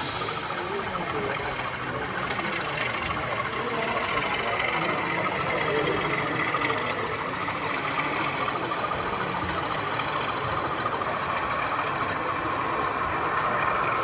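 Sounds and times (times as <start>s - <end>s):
model diesel engine sound: 0.0s - 14.0s.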